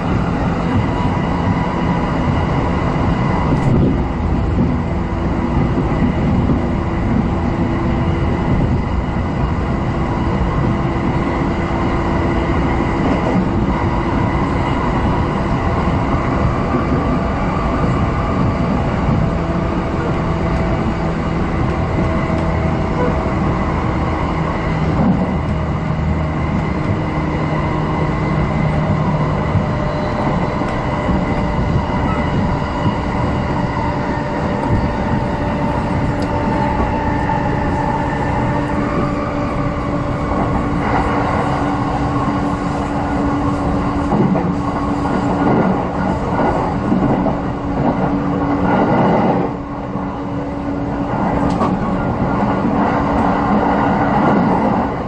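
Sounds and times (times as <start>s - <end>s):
train hum: 0.0s - 55.0s
train wheels rolling on rails: 0.0s - 55.0s.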